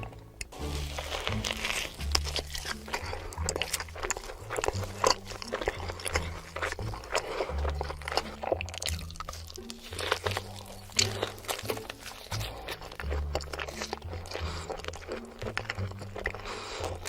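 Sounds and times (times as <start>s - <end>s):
background music with bass line: 0.0s - 17.0s
crunchy bites and chewing: 0.0s - 17.0s.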